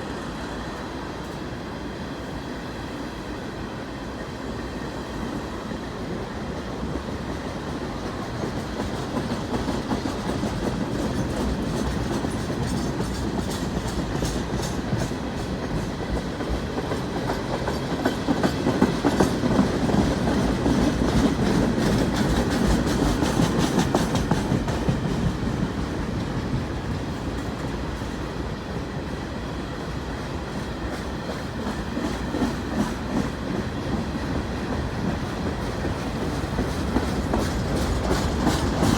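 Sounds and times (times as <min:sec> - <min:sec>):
train rumble: 0:00.0 - 0:38.9
train wheels clickety-clack: 0:03.2 - 0:38.9.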